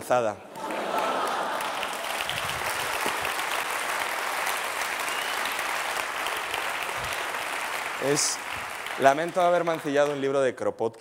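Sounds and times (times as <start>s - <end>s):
audience applauding: 0.5s - 10.5s.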